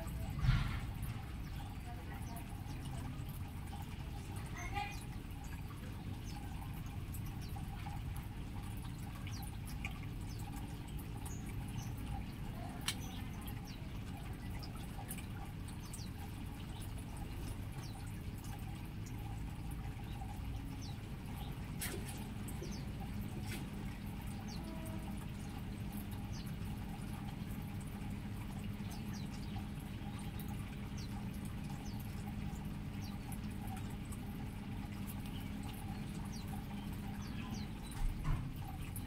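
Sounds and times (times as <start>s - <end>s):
birds chirping: 0.0s - 39.0s
low background hum: 0.0s - 39.0s.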